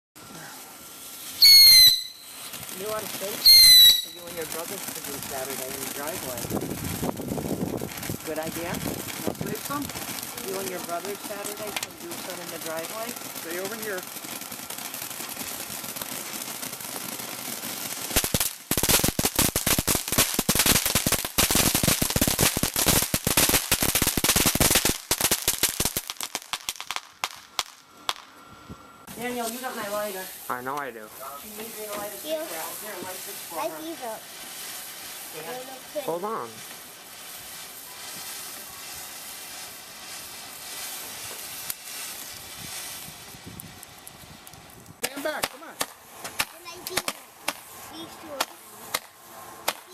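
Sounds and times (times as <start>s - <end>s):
fountain fireworks hissing: 0.2s - 28.4s, 29.0s - 49.9s
firework cracks and pops: 0.4s - 28.4s, 29.1s - 49.9s.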